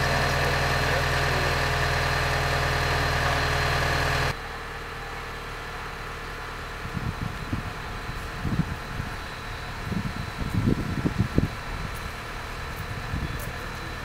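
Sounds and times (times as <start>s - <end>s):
crane diesel engine droning: 0.0s - 14.0s.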